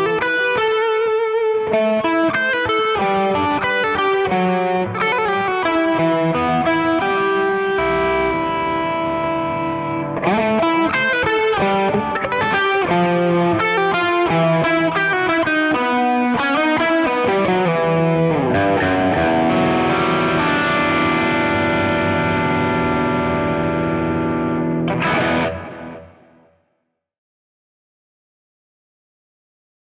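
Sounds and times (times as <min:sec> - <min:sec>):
overdriven electric guitar: 0:00.0 - 0:26.7.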